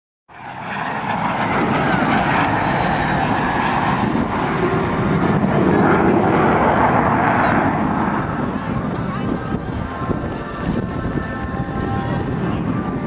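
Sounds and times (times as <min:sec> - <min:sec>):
jet and propeller aircraft flying past: 0:00.3 - 0:13.0.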